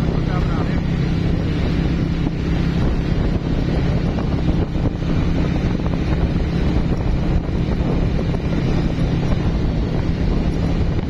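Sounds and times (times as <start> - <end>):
motorcycle engine humming: 0.0 - 11.0
wind buffeting microphone: 0.0 - 11.0.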